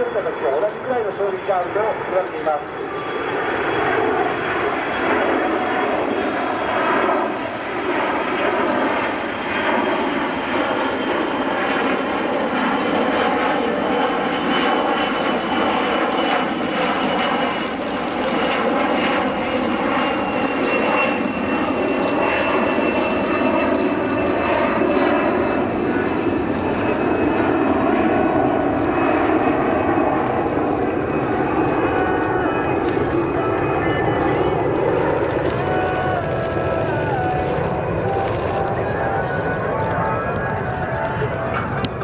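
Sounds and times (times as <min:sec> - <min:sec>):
aircraft engines running: 0:00.0 - 0:42.0.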